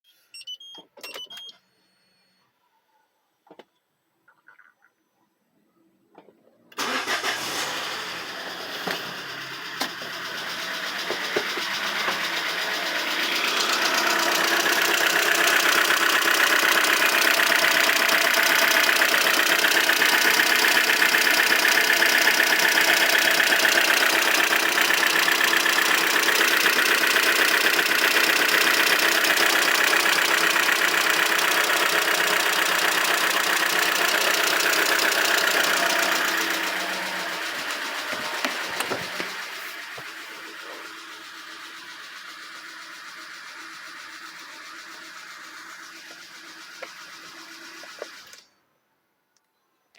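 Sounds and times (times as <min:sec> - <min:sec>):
car engine running: 0:06.8 - 0:48.4
engine knocking: 0:06.8 - 0:48.4.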